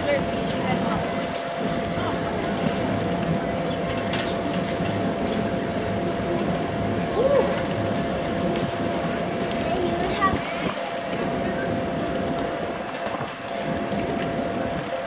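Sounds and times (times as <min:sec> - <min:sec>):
bicycles rolling past: 0:00.0 - 0:15.0
faint voices: 0:00.0 - 0:15.0
steady low rumble: 0:00.0 - 0:15.0.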